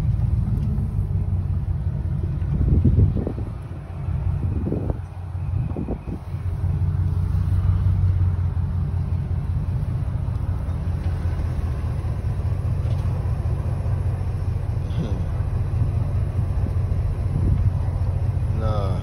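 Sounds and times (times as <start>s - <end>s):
truck engine low rumble: 0.0s - 19.0s.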